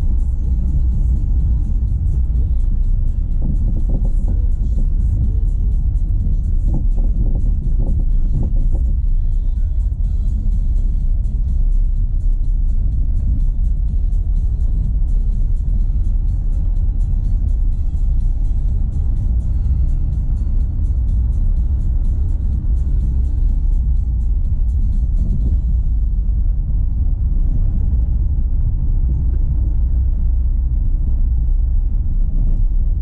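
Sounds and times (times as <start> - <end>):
music playing: 0.0 - 32.7
tyres rumbling on dirt road: 0.0 - 33.0.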